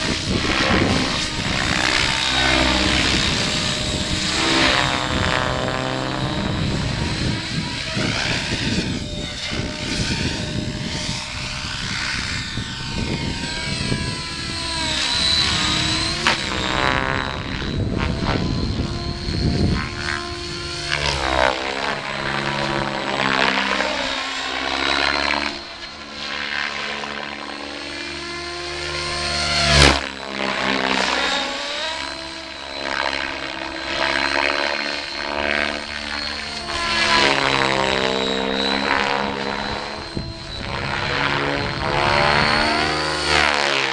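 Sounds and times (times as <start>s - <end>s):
model helicopter rotor and motor whine: 0.0s - 43.9s.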